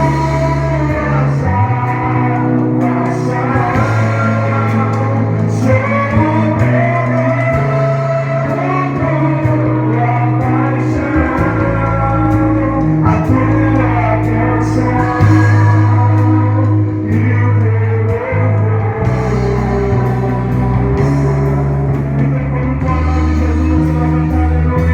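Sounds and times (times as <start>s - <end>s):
band with bass notes: 0.0s - 24.9s
voices singing gospel song: 0.0s - 24.9s.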